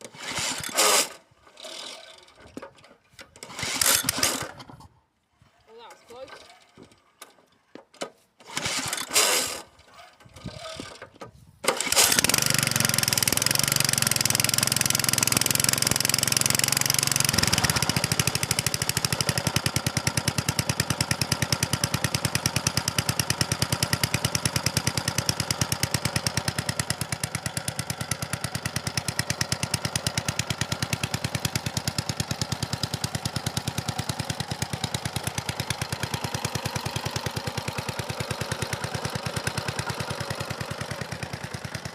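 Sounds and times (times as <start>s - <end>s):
lawnmower engine starting and running: 0.0s - 7.5s, 8.4s - 41.9s.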